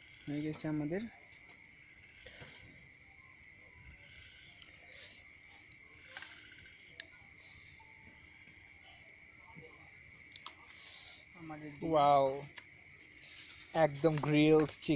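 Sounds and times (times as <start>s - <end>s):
crickets and night insects chirping: 0.0s - 14.9s.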